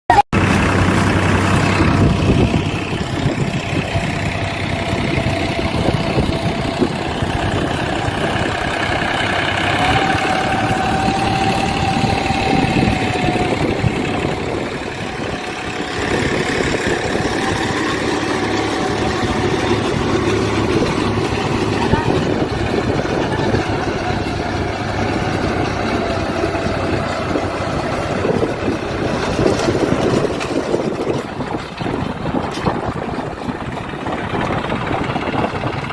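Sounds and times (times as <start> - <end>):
tractor engine running: 0.1 - 35.9
steady whine: 0.4 - 32.7.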